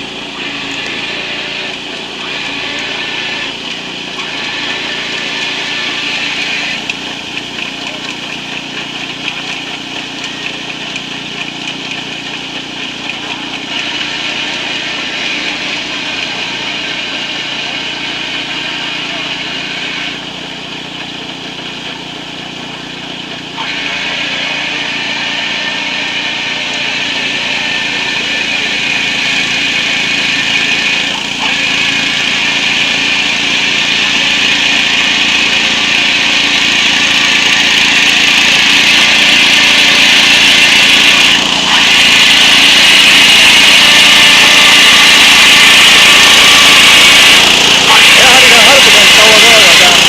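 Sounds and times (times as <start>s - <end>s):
combine harvester running: 0.0s - 50.0s.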